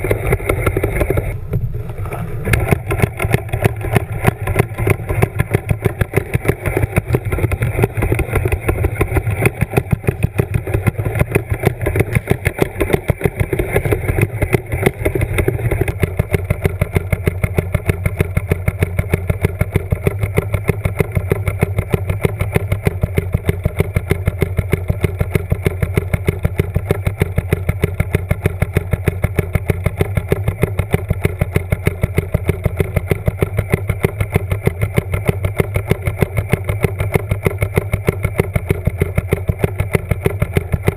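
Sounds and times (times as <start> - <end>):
underwater motor hum: 0.0 - 40.9.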